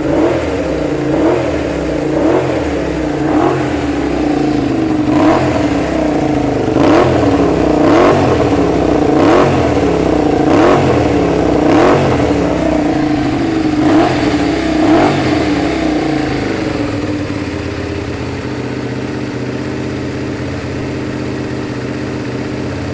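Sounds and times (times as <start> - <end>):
motorcycle engine revving and idling: 0.0 - 22.9.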